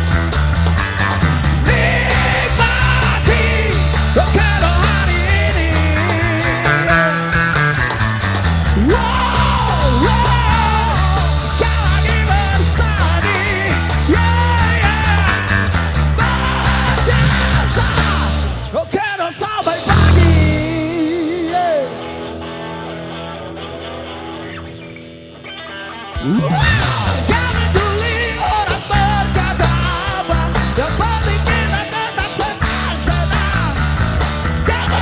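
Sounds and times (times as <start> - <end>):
live rock and roll band: 0.0 - 35.0.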